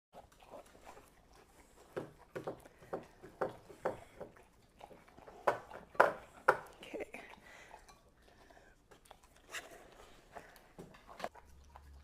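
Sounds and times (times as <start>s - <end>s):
dogs licking ice cream: 0.2s - 12.0s.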